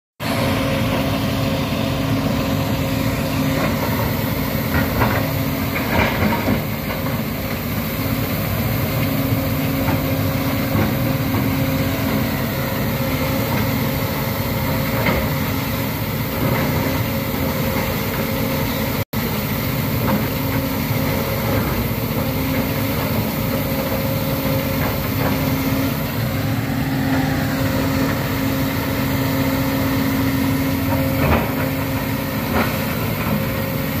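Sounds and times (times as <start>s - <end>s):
excavator diesel engine running: 0.2s - 34.0s.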